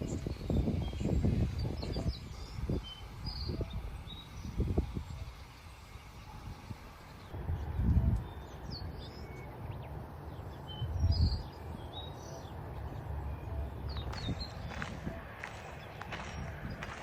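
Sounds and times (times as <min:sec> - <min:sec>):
low outdoor hum: 0:00.0 - 0:17.0
small birds chirping: 0:00.0 - 0:17.0.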